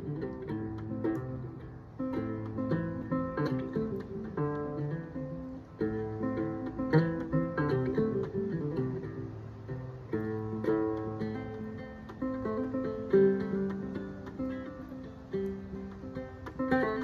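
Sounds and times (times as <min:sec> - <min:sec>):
plucked string instrument tune: 0:00.0 - 0:17.0.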